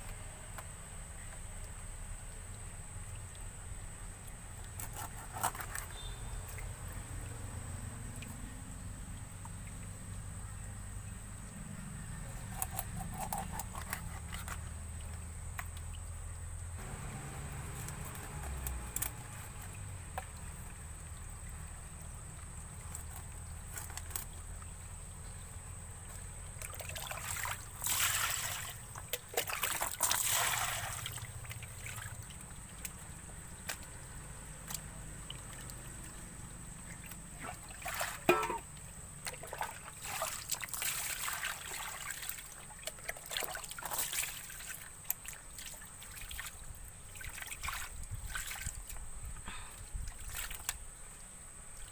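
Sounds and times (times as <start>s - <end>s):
water trickling and sloshing: 1.1s - 51.9s.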